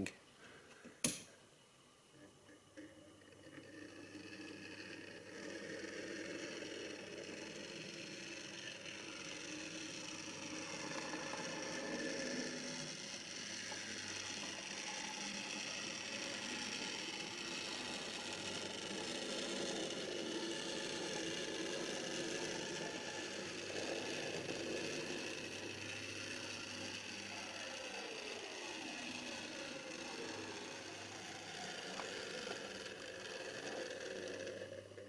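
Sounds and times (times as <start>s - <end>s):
model train motor whirring: 2.2s - 35.0s.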